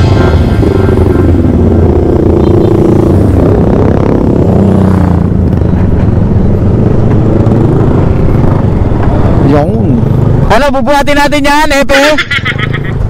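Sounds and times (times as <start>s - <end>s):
motor scooter engine running: 0.0s - 10.5s
road and wind rumble: 0.0s - 13.0s.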